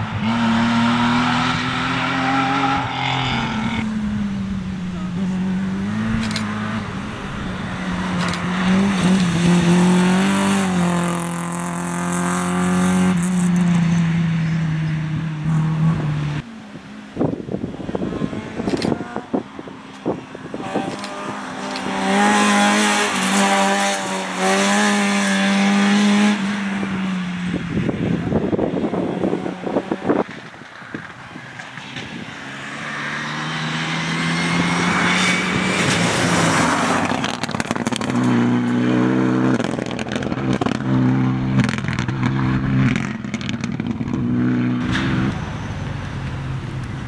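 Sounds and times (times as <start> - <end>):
rally car engine revving: 0.0 - 16.4, 20.0 - 30.5, 32.6 - 45.7.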